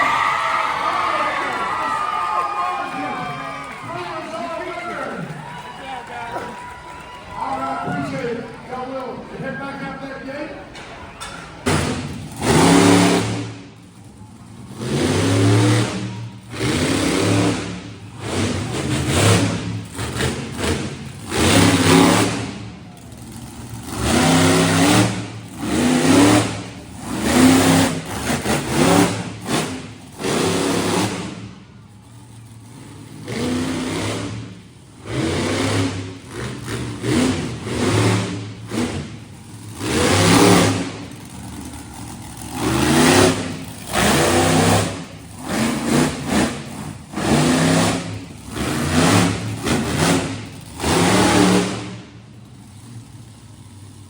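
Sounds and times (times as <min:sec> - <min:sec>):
large engine revving: 0:10.7 - 0:54.0.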